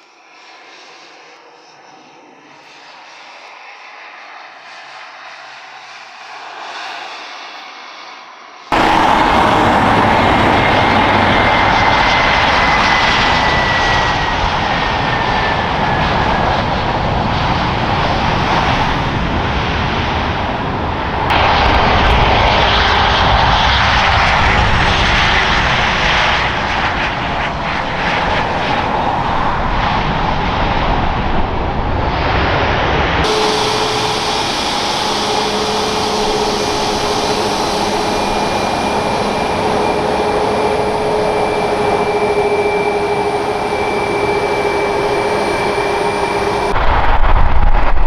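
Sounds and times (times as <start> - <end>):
airliner engines running: 0.0 - 48.0
high engine whine: 8.7 - 48.0.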